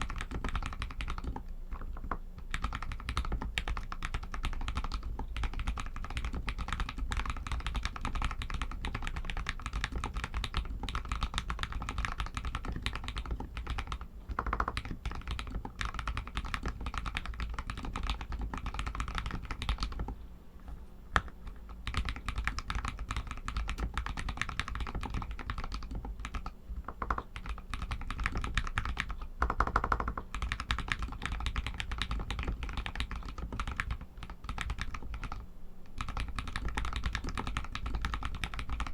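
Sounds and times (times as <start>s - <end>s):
mechanical keyboard typing: 0.0s - 20.2s, 21.2s - 38.9s.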